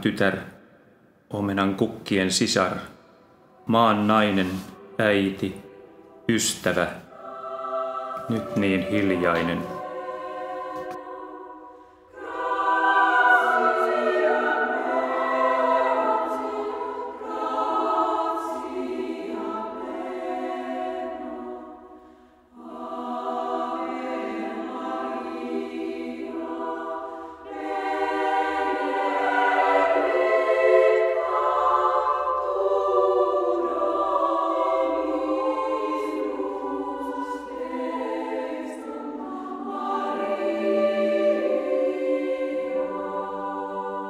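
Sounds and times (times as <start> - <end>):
choir singing a hymn: 1.4 - 44.0.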